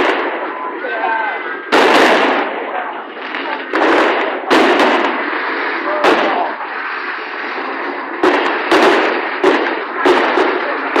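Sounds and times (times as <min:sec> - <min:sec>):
continuous noisy din: 0:00.0 - 0:11.0
fireworks bangs: 0:00.0 - 0:11.0.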